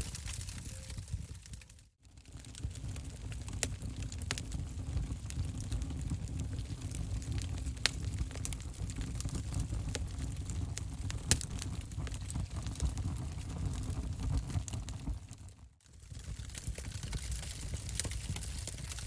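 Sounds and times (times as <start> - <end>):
fire rumbling: 0.0 - 19.0
wood fire popping: 0.0 - 19.0.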